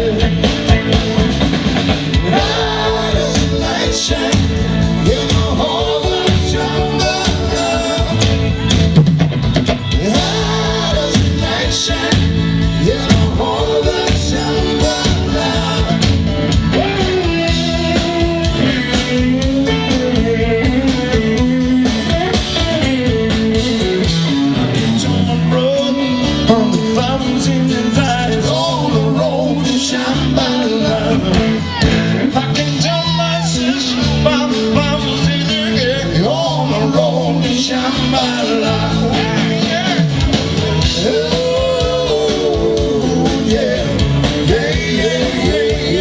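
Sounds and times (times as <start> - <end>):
electric guitar: 0.0 - 46.0
live rock band playing: 0.0 - 46.0.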